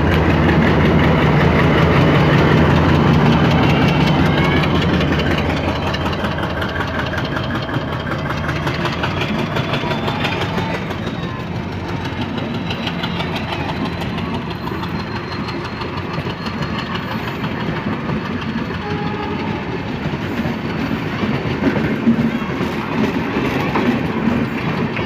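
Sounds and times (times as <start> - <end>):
train wheels running on rails: 0.0 - 25.0.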